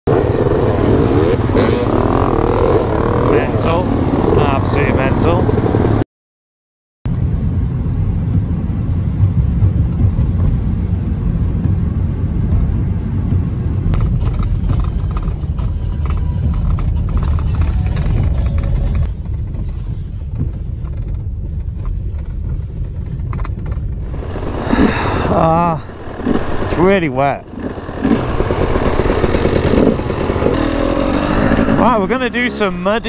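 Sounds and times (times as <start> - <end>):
low vehicle rumble: 0.1 - 6.0, 7.1 - 33.0.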